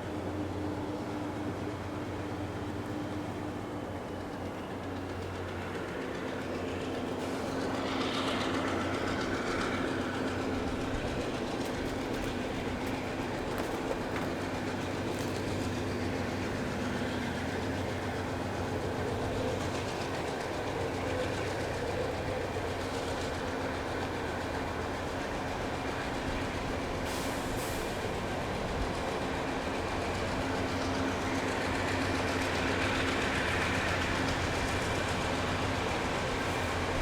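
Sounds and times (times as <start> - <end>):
freight train rumbling by: 0.0 - 37.0
wheels clacking over rail joints: 2.8 - 37.0.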